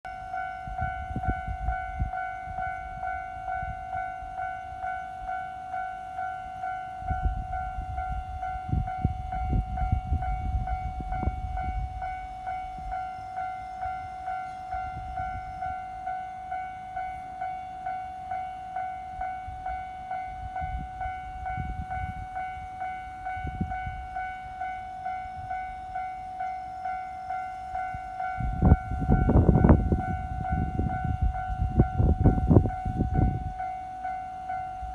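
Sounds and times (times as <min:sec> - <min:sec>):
level crossing alarm bell: 0:00.1 - 0:34.9.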